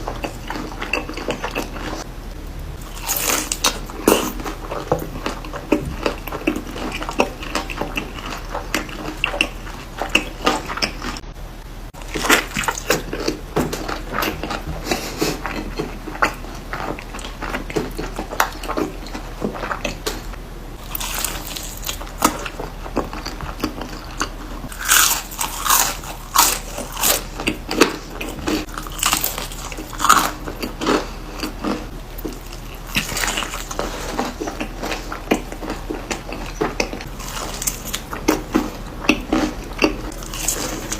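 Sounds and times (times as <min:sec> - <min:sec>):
crunchy chewing: 0:00.0 - 0:02.1, 0:02.8 - 0:11.3, 0:12.0 - 0:40.9.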